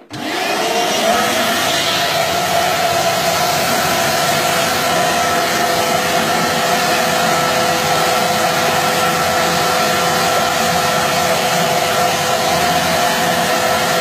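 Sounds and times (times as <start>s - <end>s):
vacuum running with whine: 0.0s - 14.0s.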